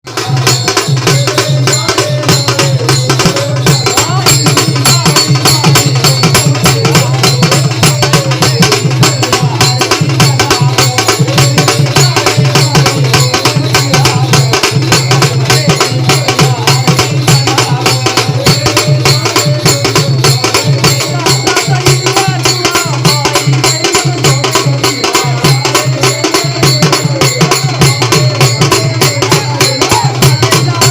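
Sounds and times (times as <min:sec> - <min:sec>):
drums and jingling percussion: 0:00.0 - 0:30.9
man singing devotional song: 0:00.0 - 0:30.9.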